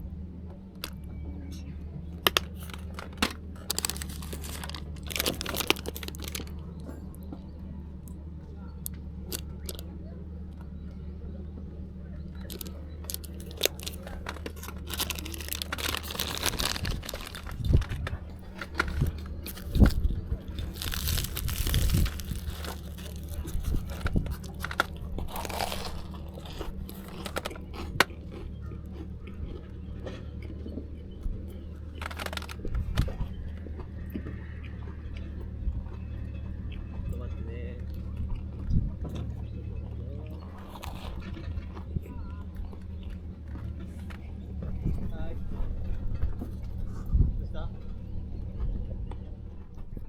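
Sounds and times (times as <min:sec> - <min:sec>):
crunching and chewing food: 0:00.0 - 0:50.0
steady low hum: 0:00.0 - 0:50.0
clicks and rustles: 0:00.5 - 0:10.8, 0:11.6 - 0:36.0, 0:38.1 - 0:50.0.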